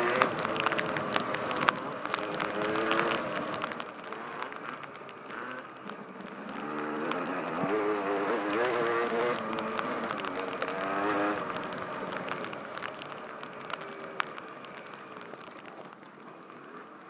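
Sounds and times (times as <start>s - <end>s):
sharp clicks: 0.0s - 16.8s
dirt bike engine: 0.0s - 17.0s.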